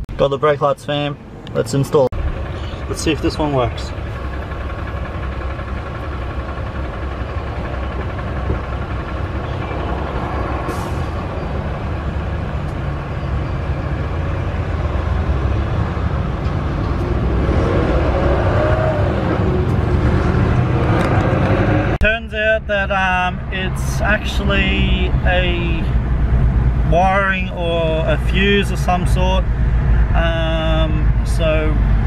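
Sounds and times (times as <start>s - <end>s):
car engine idling: 0.9s - 17.3s, 22.0s - 32.0s.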